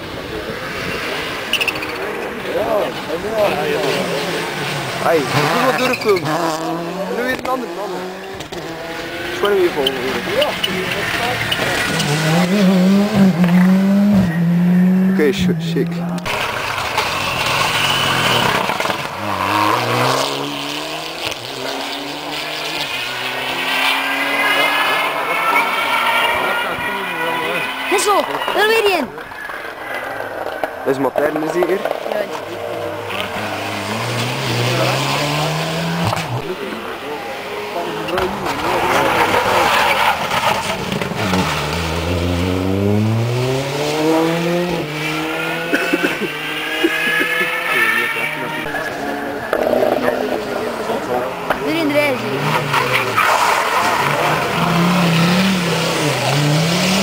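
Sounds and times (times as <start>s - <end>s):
rally car engine accelerating: 0.1s - 30.6s, 31.6s - 57.0s.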